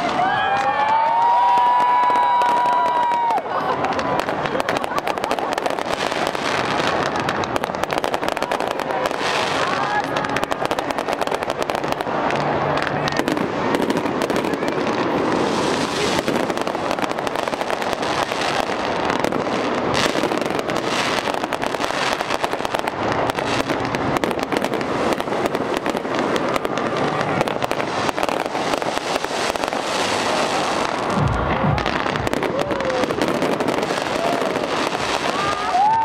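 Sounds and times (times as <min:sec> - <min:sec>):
fireworks crackling pops: 0:00.0 - 0:36.0.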